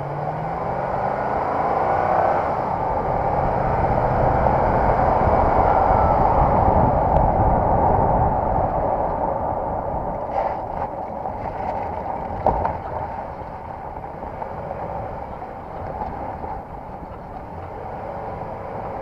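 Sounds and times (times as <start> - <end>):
road and running-gear noise: 0.0 - 19.0.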